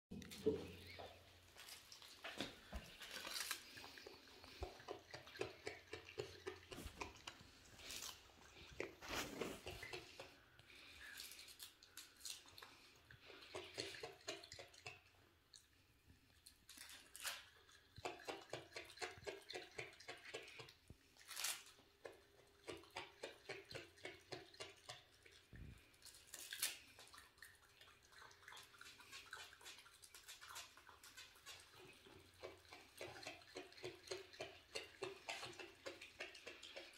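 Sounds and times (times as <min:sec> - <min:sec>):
raccoon crunching cabbage leaf: 0:00.1 - 0:36.9.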